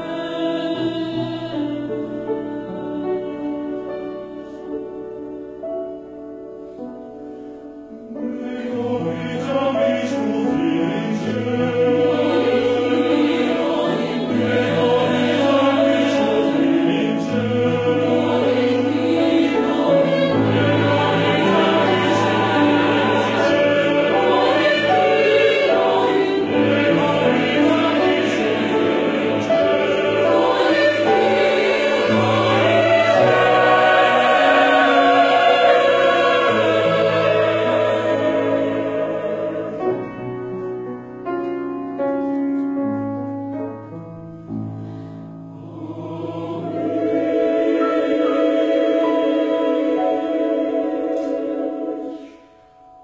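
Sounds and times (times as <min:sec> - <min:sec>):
mixed choir singing: 0:00.0 - 0:05.3, 0:08.0 - 0:40.6, 0:45.5 - 0:52.8
piano accompaniment: 0:00.0 - 0:53.0.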